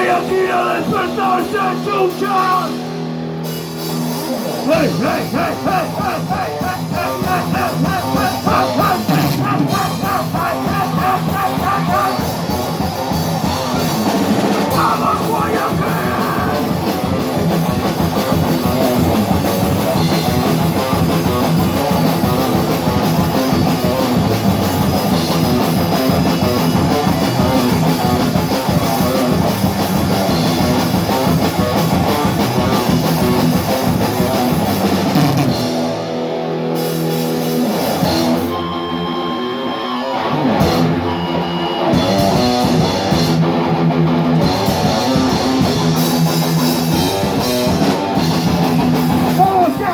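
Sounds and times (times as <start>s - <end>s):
metal band playing live: 0.0s - 49.9s.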